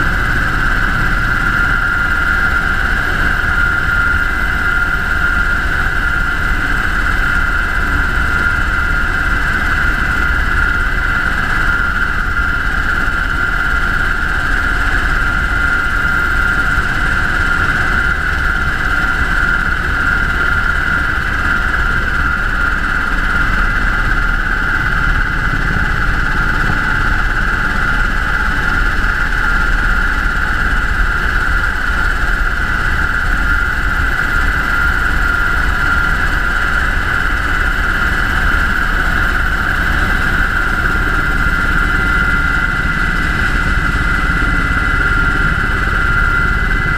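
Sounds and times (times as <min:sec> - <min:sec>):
helicopter rotor drone: 0:00.0 - 0:46.9
high turbine whine: 0:00.0 - 0:46.9.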